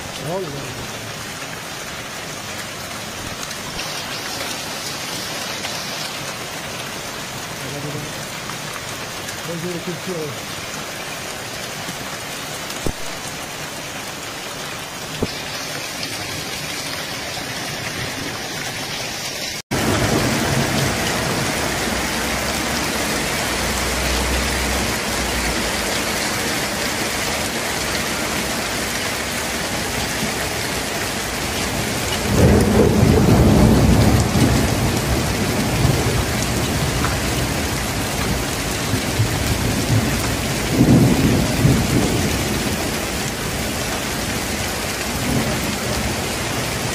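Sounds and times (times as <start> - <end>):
hail and rain pelting down: 0.0 - 46.9.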